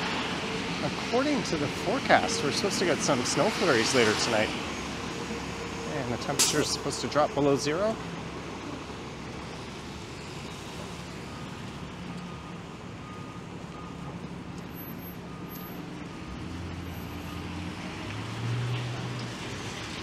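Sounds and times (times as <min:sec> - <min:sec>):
road noise on wet street: 0:00.0 - 0:20.0
vehicle engines humming: 0:00.0 - 0:20.0.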